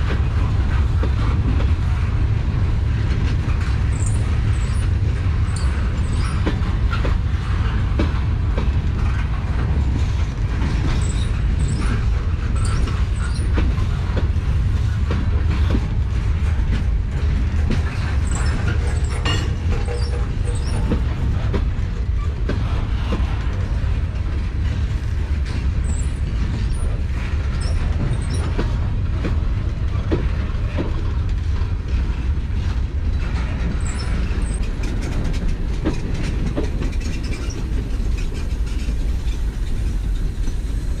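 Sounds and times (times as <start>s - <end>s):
freight train cars rolling past: 0.0s - 41.0s
wheels clicking over rail joints: 0.0s - 41.0s.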